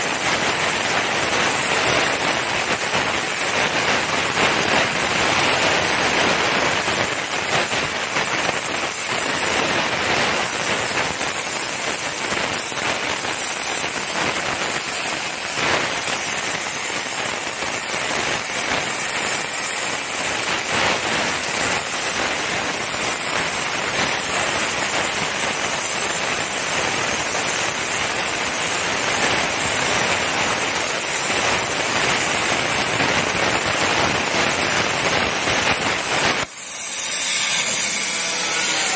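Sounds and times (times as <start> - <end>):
plasma arc hissing: 0.0 - 38.9.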